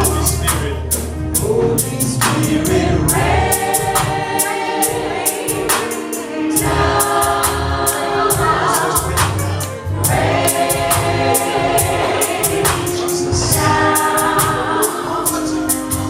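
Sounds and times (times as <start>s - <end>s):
band with heavy bass: 0.0s - 16.0s
choir singing harmonies: 0.0s - 16.0s
high percussion hits: 0.0s - 16.0s.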